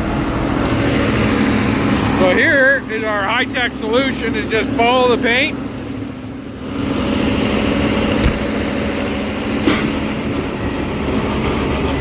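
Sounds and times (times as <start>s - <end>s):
tractor mechanical rumble and rattle: 0.0s - 12.0s.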